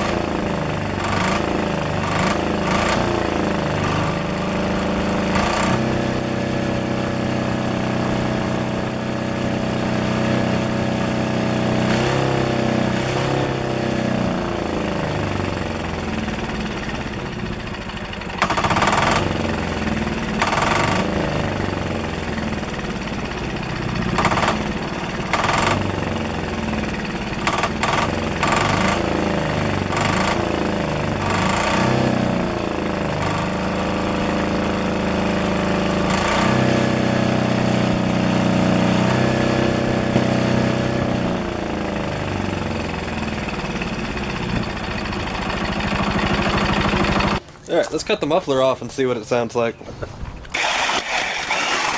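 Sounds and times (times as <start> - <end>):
single-cylinder diesel engine running: 0.0 - 48.1, 50.5 - 51.9.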